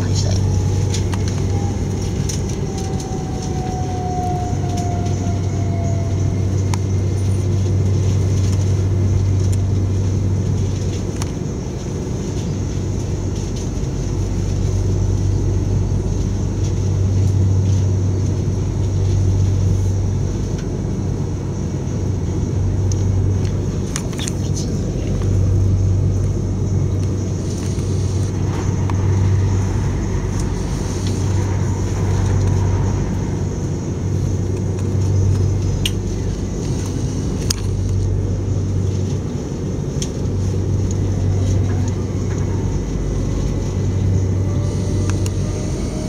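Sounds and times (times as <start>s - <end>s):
train carriage rumble and hum: 0.0s - 46.0s.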